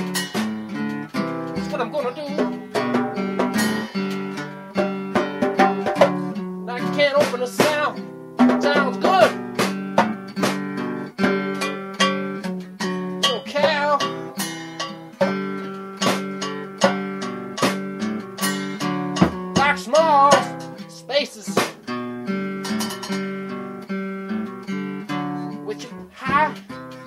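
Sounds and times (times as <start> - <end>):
acoustic guitar plucking: 0.0 - 27.0.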